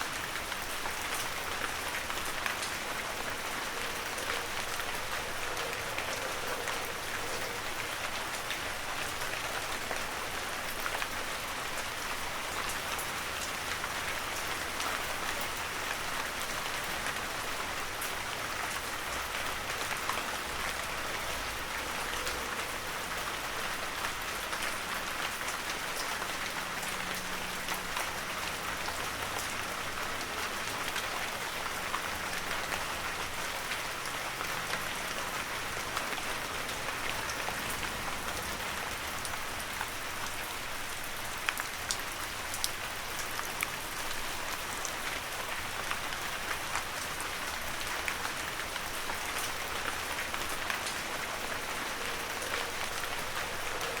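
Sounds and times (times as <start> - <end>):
heavy rain: 0.0 - 54.0
raindrops pattering on surfaces: 0.0 - 54.0.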